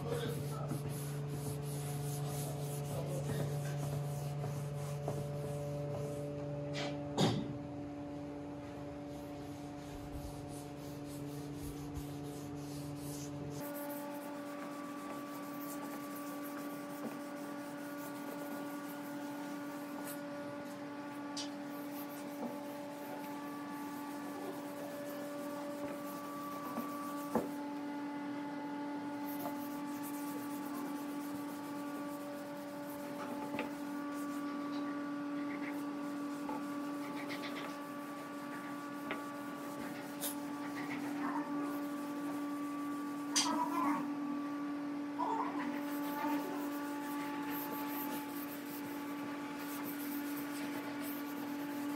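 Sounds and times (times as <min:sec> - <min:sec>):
cloth rag rubbing wood: 0:00.0 - 0:06.3, 0:08.9 - 0:27.8, 0:29.1 - 0:44.0, 0:45.6 - 0:51.9.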